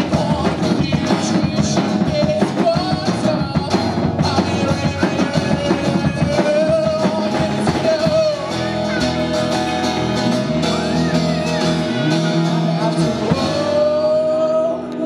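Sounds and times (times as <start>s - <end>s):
male singer holding long notes: 0.0s - 9.1s, 10.6s - 15.0s
drum strokes: 0.0s - 14.0s
acoustic guitar: 0.0s - 15.0s.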